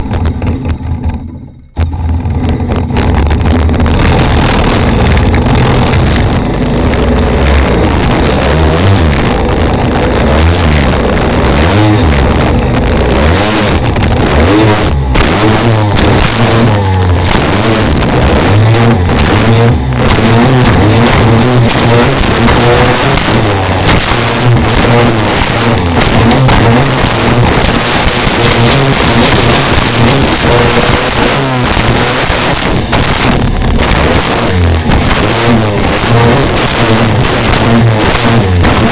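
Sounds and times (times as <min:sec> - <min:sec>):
jet ski engine revving: 0:00.0 - 0:38.9.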